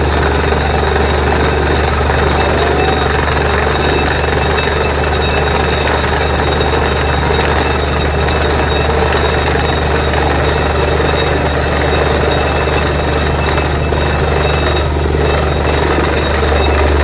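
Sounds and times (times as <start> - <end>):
drilling rig running: 0.0 - 17.0.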